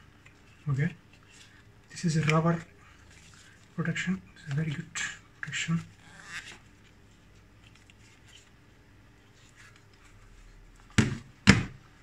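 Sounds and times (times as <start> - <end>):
rubber rustling and rubbing on plastic: 0.3 - 12.0.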